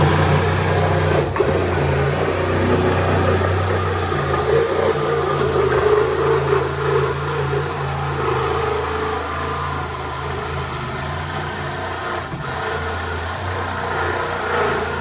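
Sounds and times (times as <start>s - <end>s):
power tool motor running: 0.0s - 15.0s.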